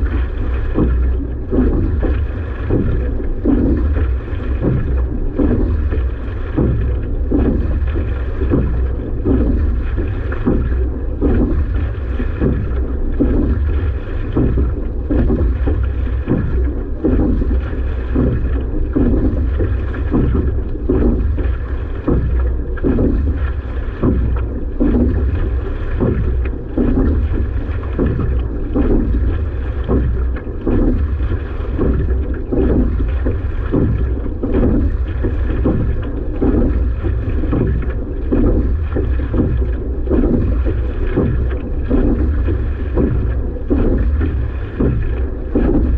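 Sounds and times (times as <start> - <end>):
constant low rumble: 0.0 - 45.9
rowing stroke water surge: 0.0 - 45.9.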